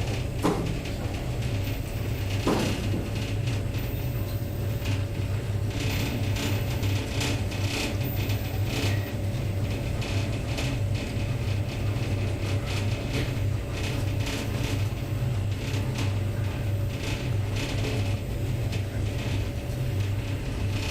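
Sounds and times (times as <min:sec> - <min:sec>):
train running gear rumble: 0:00.0 - 0:20.9.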